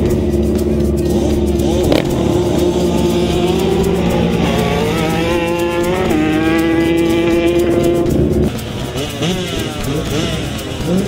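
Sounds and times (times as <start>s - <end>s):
quad engines revving: 0.0s - 11.0s.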